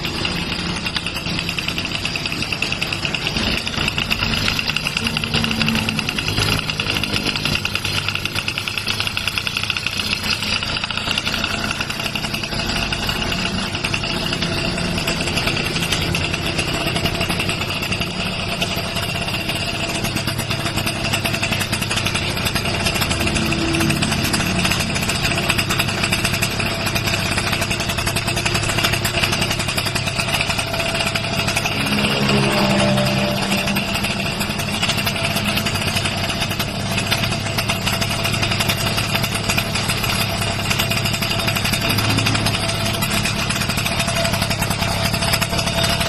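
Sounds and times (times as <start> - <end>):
scooter engine running: 0.0 - 46.0.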